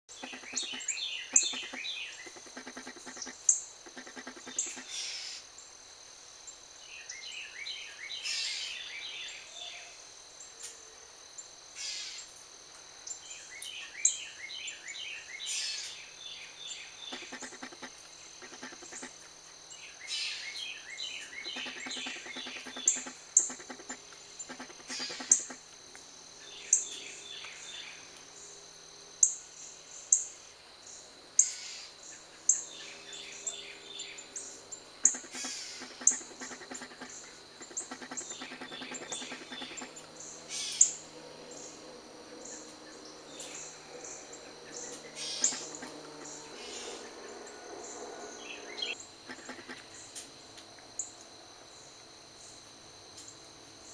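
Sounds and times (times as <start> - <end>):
steady high-pitched whine: 0.1 - 6.6, 16.2 - 53.9
songbirds chirping: 0.1 - 9.9, 13.0 - 51.2.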